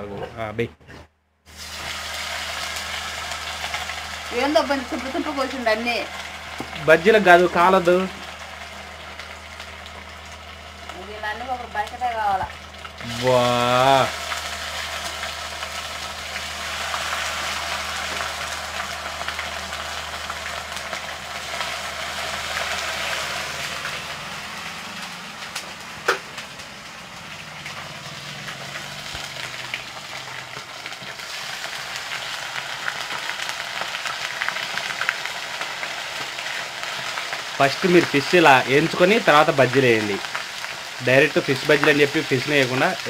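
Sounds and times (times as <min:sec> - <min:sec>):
fish deep-frying in oil: 0:01.5 - 0:43.0.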